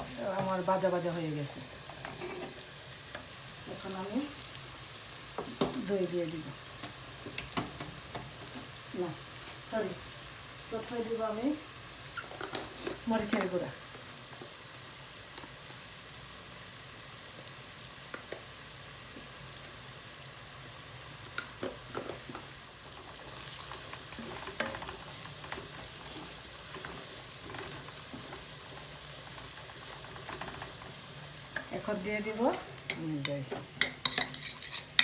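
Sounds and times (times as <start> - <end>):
spices frying in oil: 0.0 - 35.0.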